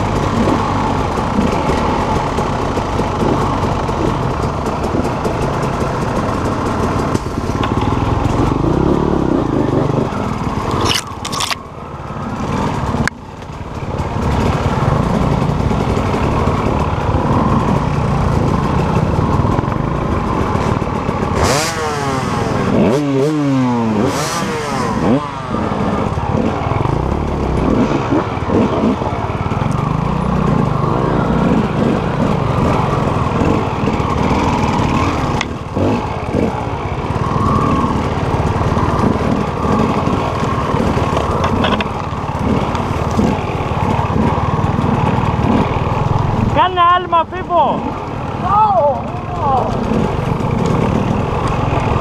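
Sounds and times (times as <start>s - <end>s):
dirt bike engines running: 0.0s - 52.0s.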